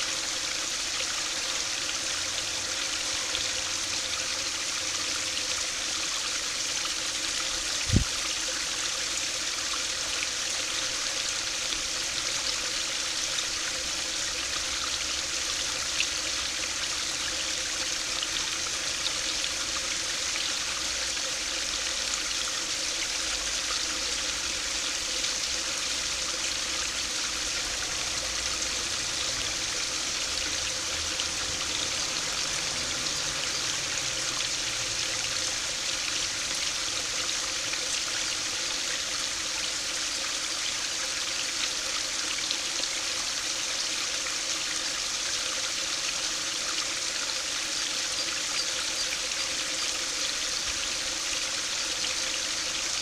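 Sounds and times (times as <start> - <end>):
water trickling over stone: 0.0 - 53.0.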